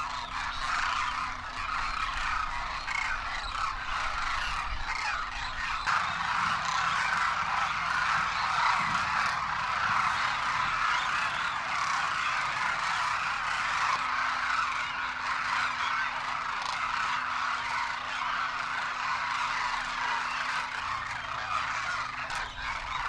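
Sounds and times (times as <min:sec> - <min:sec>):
flock of cranes calling: 0:00.0 - 0:23.0.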